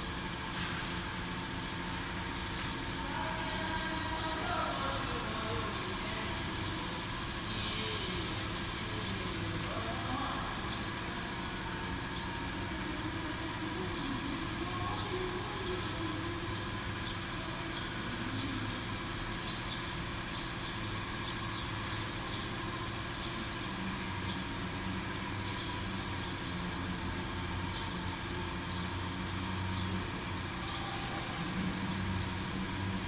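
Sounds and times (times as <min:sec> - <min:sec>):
cnc router humming: 0:00.0 - 0:33.0.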